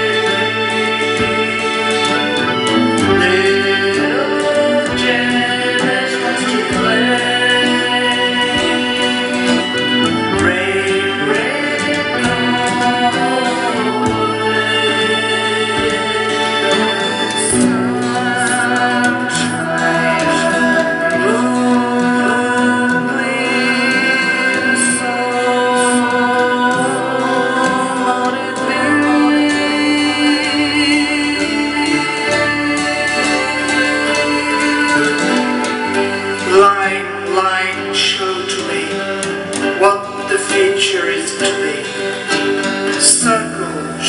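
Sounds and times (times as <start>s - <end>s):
acoustic guitar: 0.0s - 44.0s
recorded band music: 0.0s - 44.0s.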